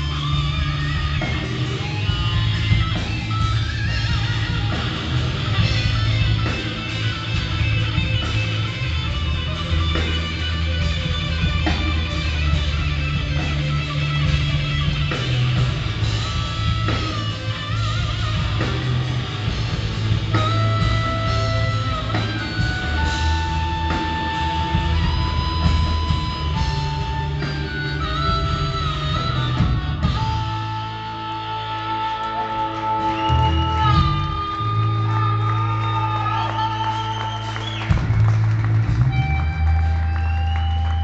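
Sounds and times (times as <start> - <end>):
held lead guitar notes: 0.0 - 36.9
blues band playing: 0.0 - 41.0.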